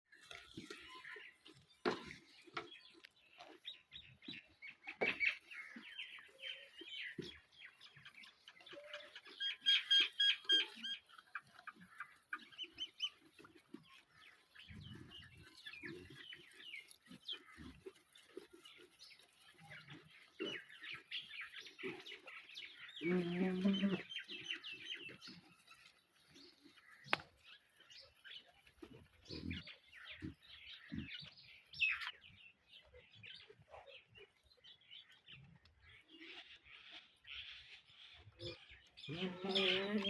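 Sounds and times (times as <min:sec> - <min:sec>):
small birds chirping: 0:00.1 - 0:40.0
chickens clucking: 0:00.2 - 0:32.3.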